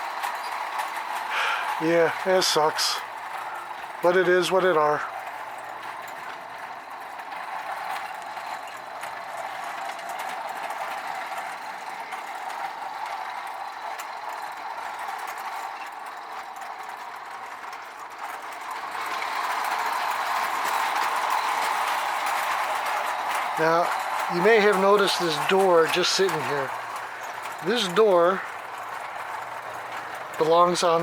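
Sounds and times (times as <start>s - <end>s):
toy train motor whir: 0.0s - 31.0s
wheels clattering over rail joints: 0.0s - 31.0s.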